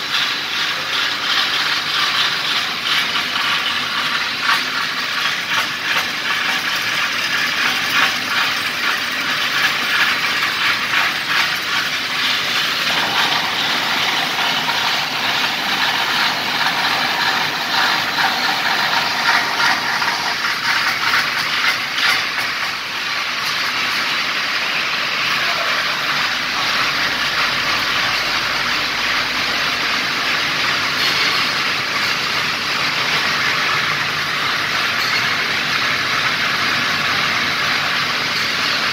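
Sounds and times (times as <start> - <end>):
factory machinery rattling din: 0.0 - 38.9.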